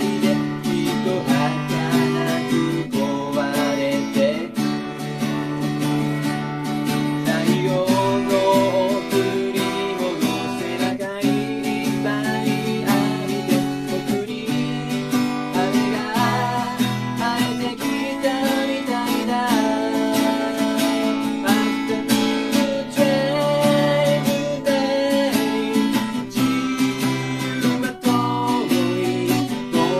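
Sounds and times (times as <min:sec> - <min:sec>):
acoustic guitar strumming: 0:00.0 - 0:29.9
man singing: 0:00.0 - 0:29.9.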